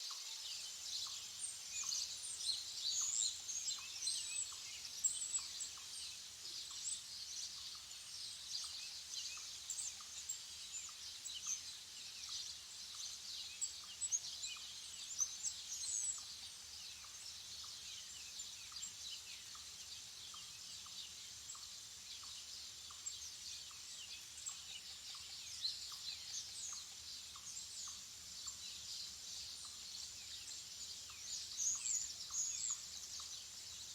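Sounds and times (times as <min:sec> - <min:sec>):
birds chirping in chorus: 0:00.0 - 0:33.9.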